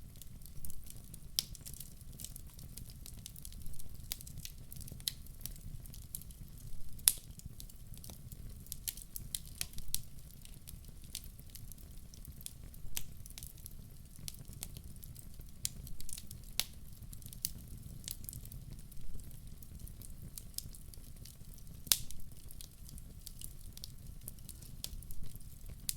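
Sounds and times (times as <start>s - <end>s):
wood fire crackling and popping: 0.0s - 25.9s.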